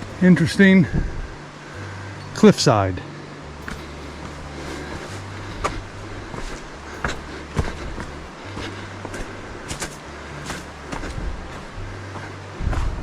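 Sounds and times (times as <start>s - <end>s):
footsteps on rocky trail: 0.0s - 2.5s, 3.6s - 13.0s
low hum: 0.0s - 13.0s.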